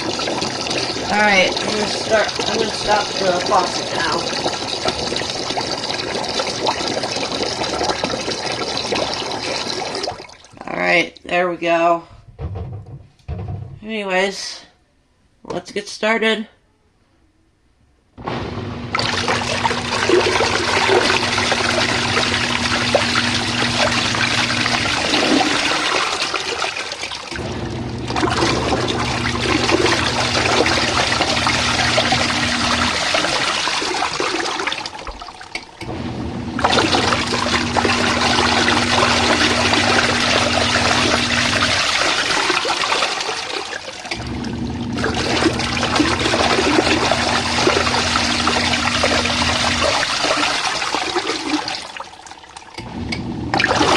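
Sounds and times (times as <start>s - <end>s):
water swishing: 0.0s - 10.8s, 18.2s - 53.9s
washing machine motor humming: 0.0s - 11.0s, 18.2s - 53.9s.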